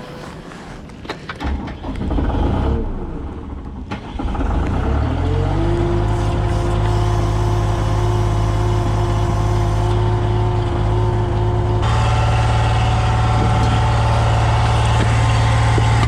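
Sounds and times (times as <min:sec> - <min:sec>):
diesel truck engine running: 0:02.1 - 0:16.0.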